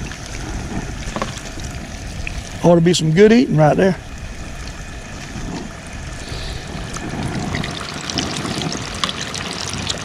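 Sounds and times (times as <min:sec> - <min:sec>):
fish deep-frying sizzle: 0:00.0 - 0:10.0.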